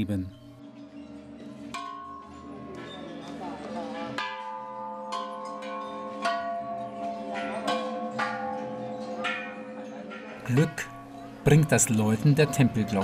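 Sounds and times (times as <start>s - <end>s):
temple bells ringing: 0.0s - 13.0s.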